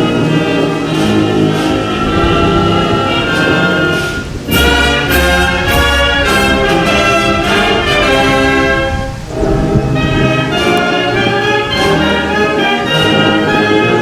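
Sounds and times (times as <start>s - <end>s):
orchestral music with brass: 0.0s - 14.0s.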